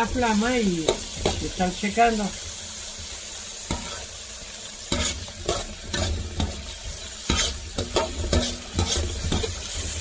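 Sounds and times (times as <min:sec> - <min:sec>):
pepper sizzling in oil: 0:00.0 - 0:10.0.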